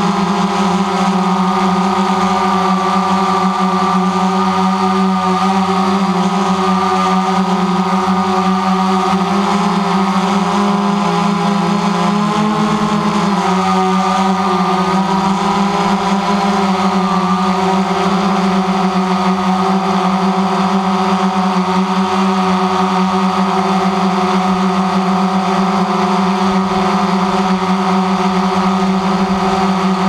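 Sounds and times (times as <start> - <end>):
drone propellers buzzing: 0.0 - 30.0.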